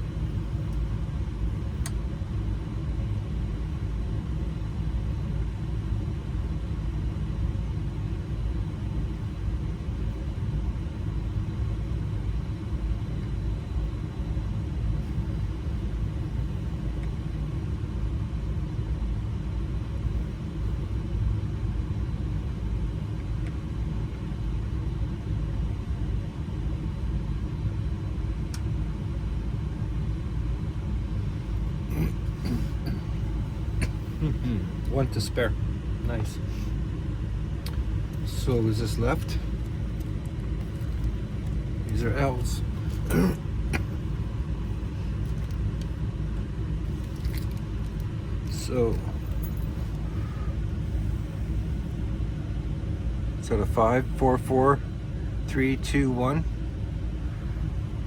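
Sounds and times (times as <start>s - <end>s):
low engine rumble: 0.0s - 58.0s.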